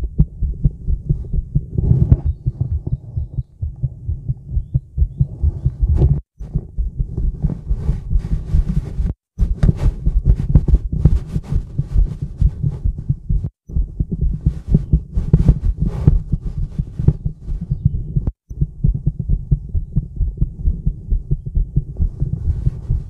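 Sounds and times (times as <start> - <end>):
heartbeat thumps: 0.0 - 23.0
stethoscope rubbing noise: 0.1 - 18.4, 20.3 - 23.0.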